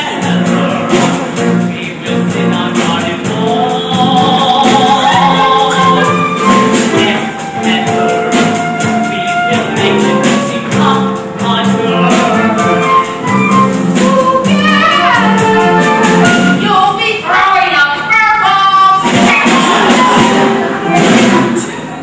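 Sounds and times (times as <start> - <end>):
instrumental accompaniment with beat: 0.0 - 16.9, 19.0 - 22.0
voices singing: 0.0 - 22.0.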